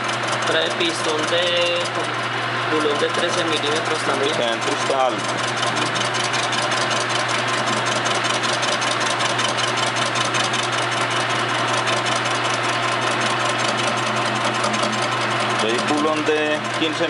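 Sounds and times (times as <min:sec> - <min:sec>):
fast even ticking: 0:00.0 - 0:17.0
metal lathe running: 0:00.0 - 0:17.0.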